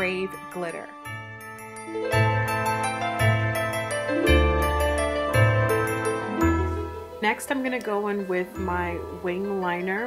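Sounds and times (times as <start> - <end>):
melodic background music: 0.0 - 10.0.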